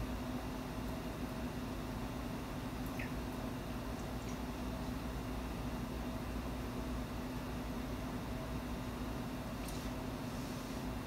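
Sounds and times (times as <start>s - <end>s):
low hum with faint hiss: 0.0s - 11.0s.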